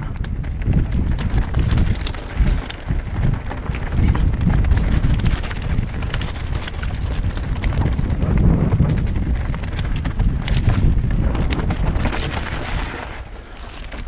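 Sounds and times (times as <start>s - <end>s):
bike tyres crunching over rocks: 0.0s - 14.0s
wind buffeting microphone: 0.0s - 14.0s.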